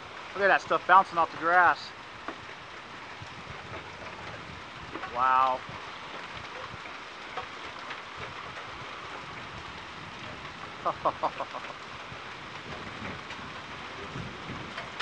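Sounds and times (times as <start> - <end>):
hailstones ticking: 0.0 - 15.0
hard rain hissing: 0.0 - 15.0.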